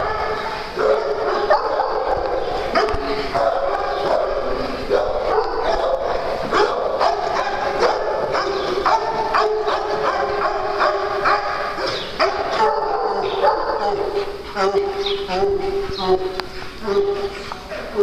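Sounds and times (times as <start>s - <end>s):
dogs barking: 0.0s - 18.0s.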